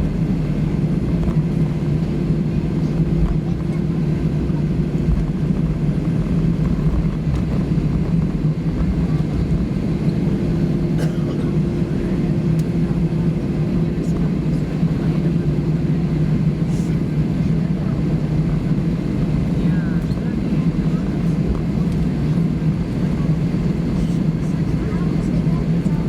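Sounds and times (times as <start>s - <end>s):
airplane cabin hum: 0.0s - 26.0s.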